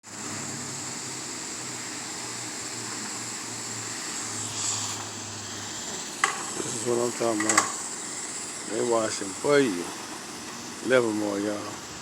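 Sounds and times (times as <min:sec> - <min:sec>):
car wash machinery drone: 0:00.0 - 0:12.0.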